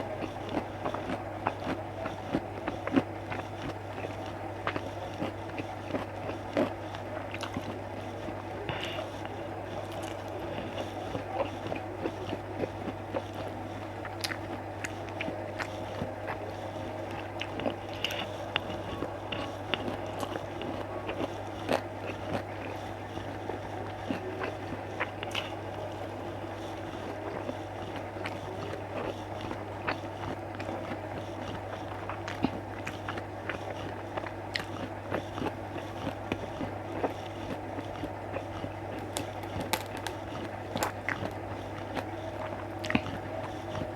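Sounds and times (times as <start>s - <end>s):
person chewing food: 0.0s - 43.9s
steady low hum: 0.0s - 43.9s.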